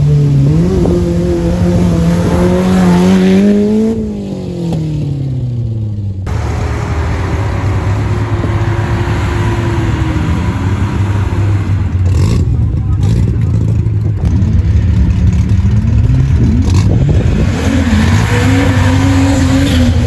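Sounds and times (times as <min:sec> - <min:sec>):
engine running steadily: 0:00.0 - 0:20.0
engine under load: 0:00.0 - 0:20.0.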